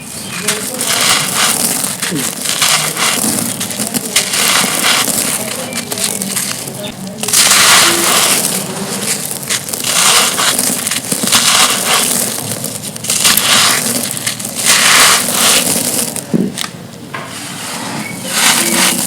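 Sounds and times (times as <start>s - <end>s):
stone slabs crunching: 0.0s - 16.7s, 18.2s - 19.0s.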